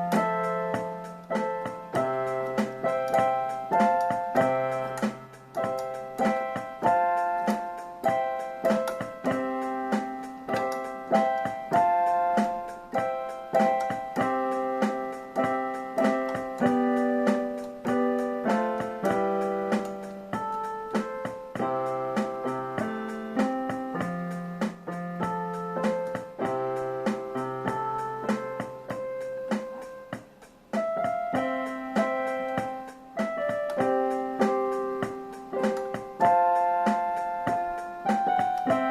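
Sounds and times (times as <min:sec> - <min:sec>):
electronic keyboard piano chords: 0:00.0 - 0:38.9.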